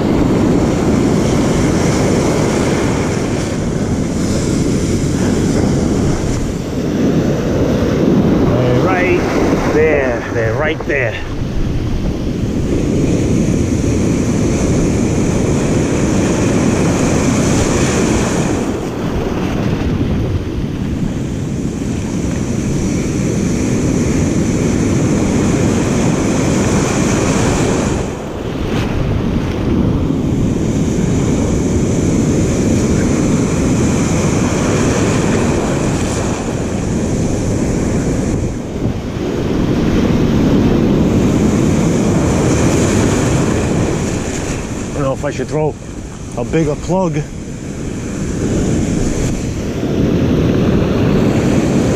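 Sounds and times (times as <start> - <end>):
ocean surf breaking: 0.0 - 51.9
wind buffeting microphone: 0.0 - 51.9.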